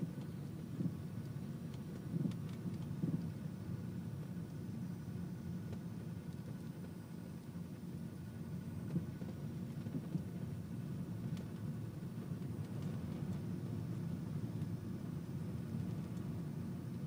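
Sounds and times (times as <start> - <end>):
diesel engine and road rumble: 0.0 - 17.0.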